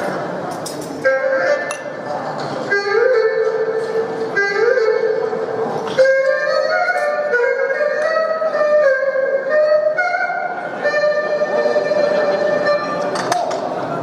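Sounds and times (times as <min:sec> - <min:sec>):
erhu melody: 0:00.0 - 0:14.0.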